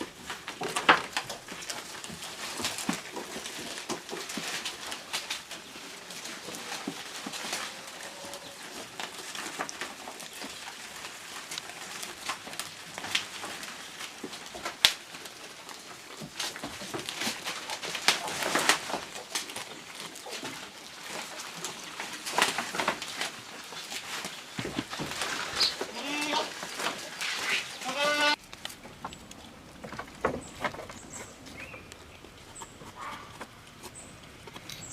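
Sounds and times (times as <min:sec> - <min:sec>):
goats chewing rustling leaves: 0:00.0 - 0:34.9.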